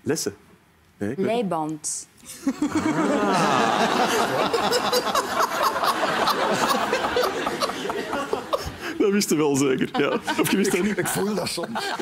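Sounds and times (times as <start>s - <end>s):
audience laughing: 2.3s - 12.0s.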